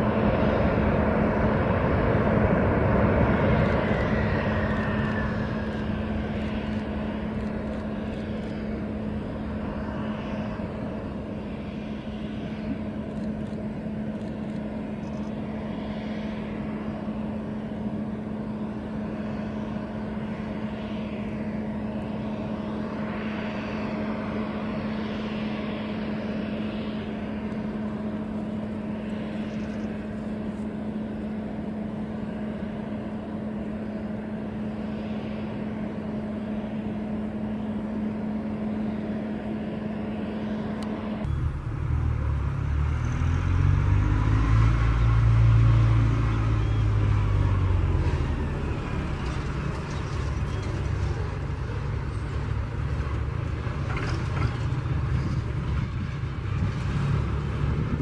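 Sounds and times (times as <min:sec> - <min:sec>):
jet aircraft deep rumble: 0:00.0 - 0:58.0
jet engines idling: 0:00.0 - 0:58.0.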